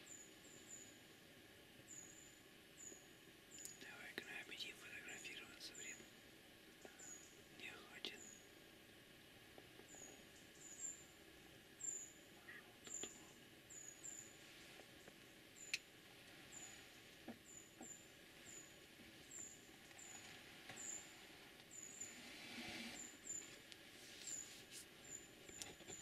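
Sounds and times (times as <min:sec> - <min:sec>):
small bird chirping: 0:01.9 - 0:06.1, 0:06.8 - 0:08.5, 0:09.8 - 0:11.2, 0:11.8 - 0:14.4, 0:15.0 - 0:26.0.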